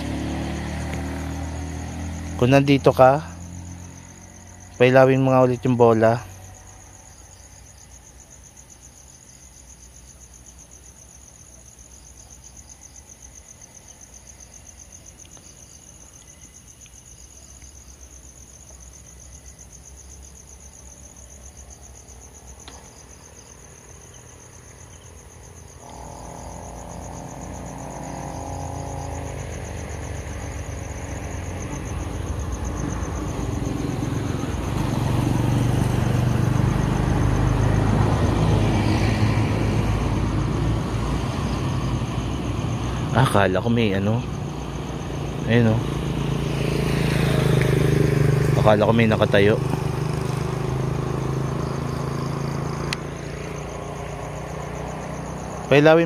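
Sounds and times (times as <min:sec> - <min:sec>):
crickets trilling: 0:00.0 - 0:56.0
motor vehicle approaching: 0:00.0 - 0:56.0.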